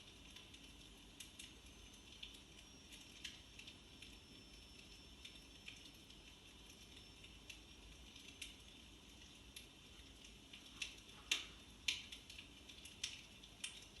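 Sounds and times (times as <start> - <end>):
electric fireplace crackle effect: 0.0 - 14.0.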